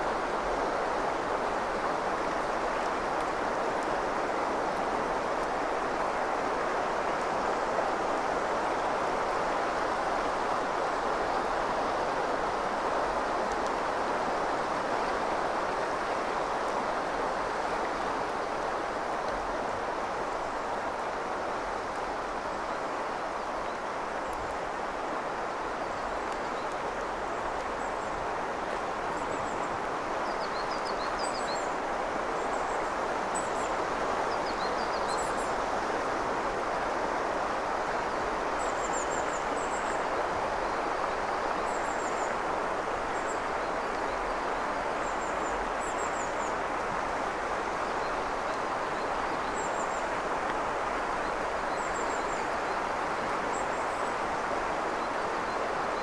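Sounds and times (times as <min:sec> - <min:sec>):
river flowing over stones: 0:00.0 - 0:56.0.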